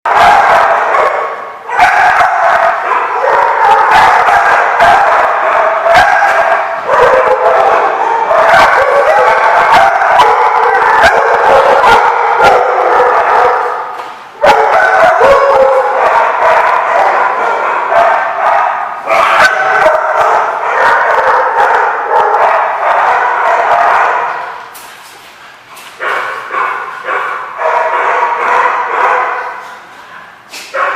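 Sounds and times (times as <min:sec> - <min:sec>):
dogs barking and yipping: 0:00.1 - 0:24.7, 0:26.0 - 0:29.9, 0:30.6 - 0:30.9.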